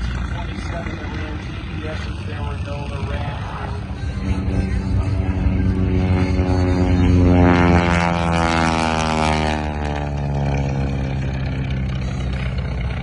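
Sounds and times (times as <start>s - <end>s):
propeller airplane flying by: 0.0s - 13.0s.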